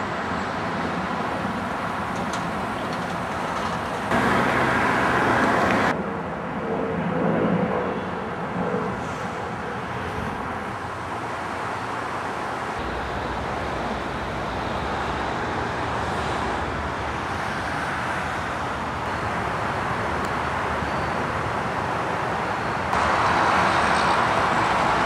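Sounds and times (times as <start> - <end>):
passing road vehicles: 0.0 - 25.0.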